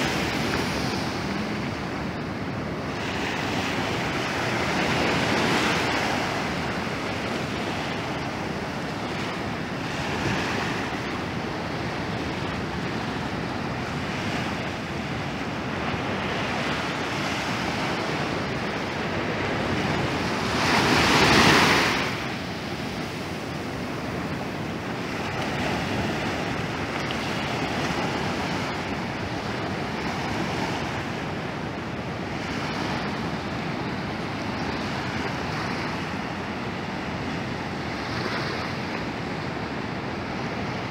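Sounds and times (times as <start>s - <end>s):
waves breaking on beach: 0.0s - 40.9s.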